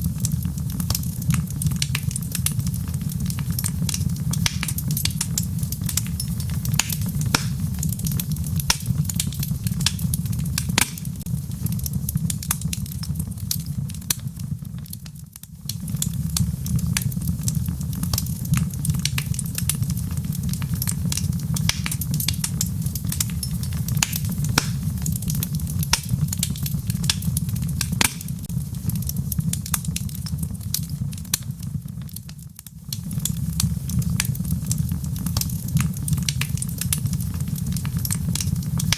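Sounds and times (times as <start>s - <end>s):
fire crackling and popping: 0.0s - 38.9s
low rumble of flame: 0.0s - 38.9s.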